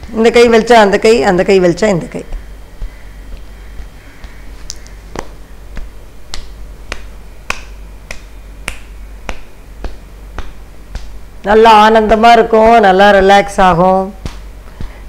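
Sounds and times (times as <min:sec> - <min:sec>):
hand patting on scalp: 0:01.8 - 0:15.0.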